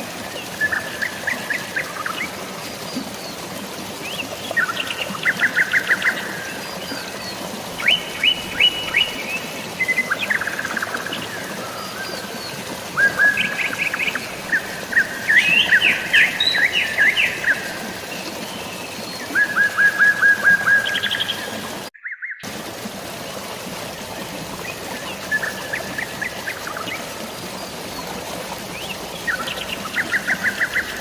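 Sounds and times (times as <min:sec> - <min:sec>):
drizzling rain: 0:00.0 - 0:31.0
flowing water: 0:00.0 - 0:31.0
songbirds chirping: 0:00.3 - 0:22.4, 0:24.3 - 0:31.0.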